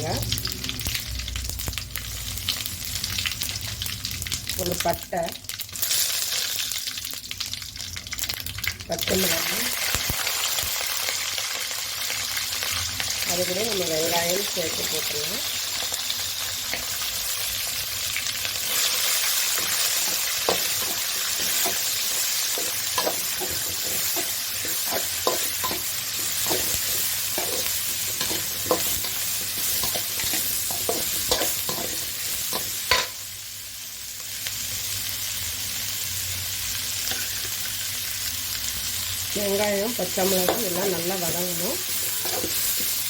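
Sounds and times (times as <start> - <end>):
onions sizzling in hot oil: 0.0 - 43.0.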